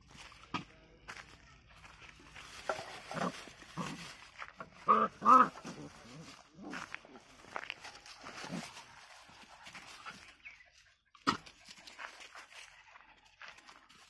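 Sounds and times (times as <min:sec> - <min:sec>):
dry leaves rustling: 0:01.1 - 0:14.0.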